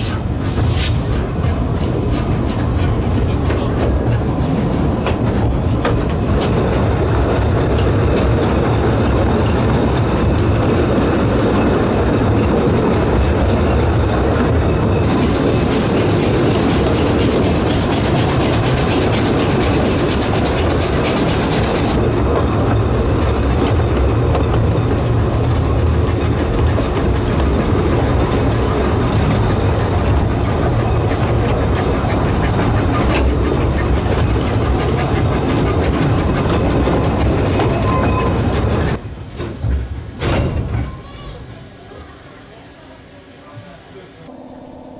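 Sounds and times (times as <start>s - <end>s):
train wheels rumbling on rail: 0.0s - 42.8s.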